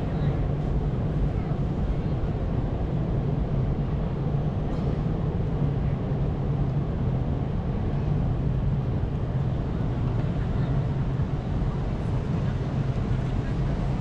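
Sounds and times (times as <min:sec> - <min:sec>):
city background rumble: 0:00.0 - 0:14.0.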